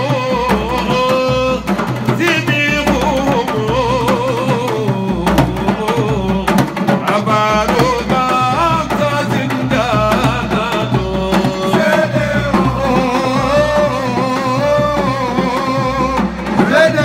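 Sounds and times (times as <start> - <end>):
man singing into microphone: 0.0 - 17.0
rapid hand-drum strokes: 0.0 - 17.0.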